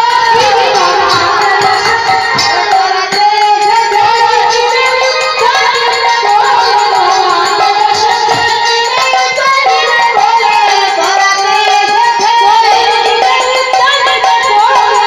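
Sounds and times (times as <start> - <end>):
hand drums: 0.0 - 15.0
steady held notes: 0.0 - 15.0
woman singing through microphone: 0.0 - 15.0.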